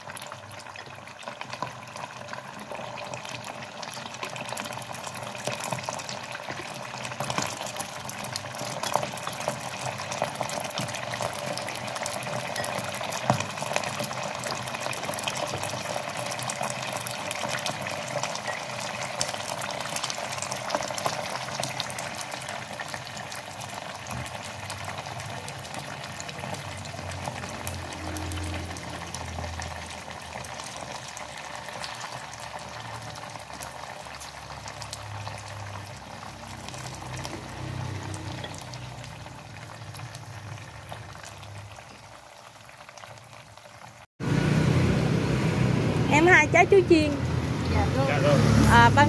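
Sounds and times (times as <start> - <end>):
oil sizzling and crackling: 0.0 - 49.0.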